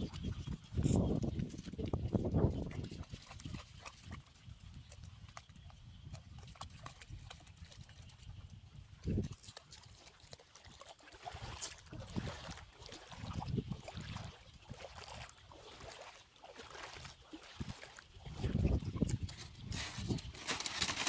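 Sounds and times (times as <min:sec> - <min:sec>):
footsteps splashing through water: 0:00.0 - 0:08.2, 0:08.9 - 0:21.0.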